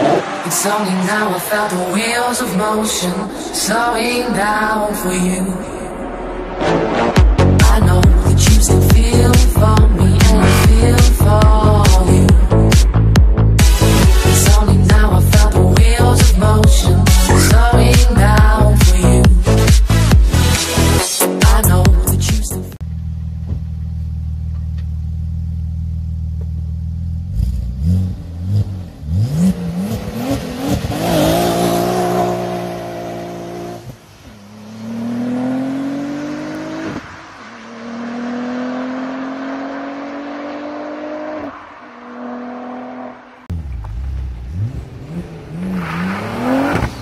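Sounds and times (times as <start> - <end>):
car engine revving and accelerating: 0.0 - 21.0, 26.8 - 47.0.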